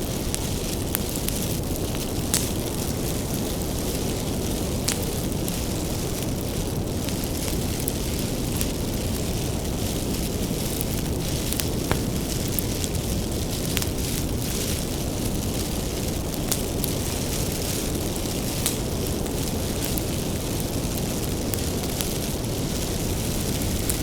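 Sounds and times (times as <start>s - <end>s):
bonfire flames rushing: 0.0s - 24.0s
firewood crackling and popping: 0.0s - 24.0s.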